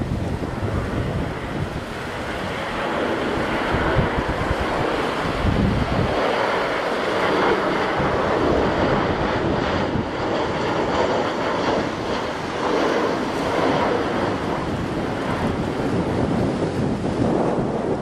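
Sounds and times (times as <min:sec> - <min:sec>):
gusty wind buffeting microphone: 0:00.0 - 0:18.0
jet engines roaring: 0:00.0 - 0:18.0.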